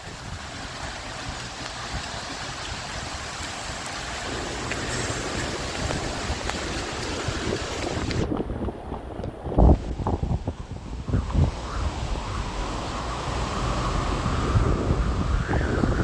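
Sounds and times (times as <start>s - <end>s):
wind buffeting microphone: 0.0s - 16.0s
wind driving rain: 0.0s - 16.0s.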